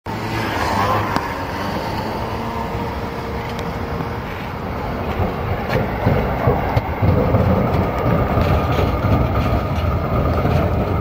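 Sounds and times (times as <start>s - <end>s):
car traffic: 0.0s - 11.0s
tram running on rails: 0.1s - 11.0s.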